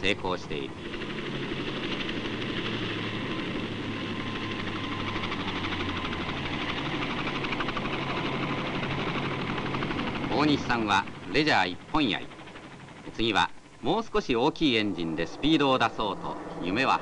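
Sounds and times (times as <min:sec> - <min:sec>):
small aircraft engine buzzing: 0:00.0 - 0:17.0.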